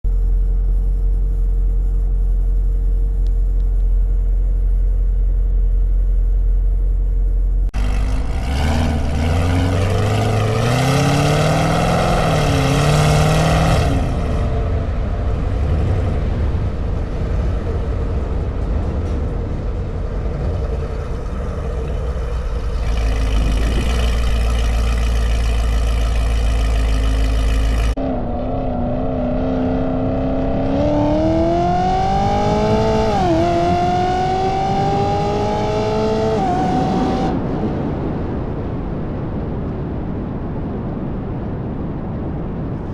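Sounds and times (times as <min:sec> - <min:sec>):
car engine accelerating: 0:00.1 - 0:38.0.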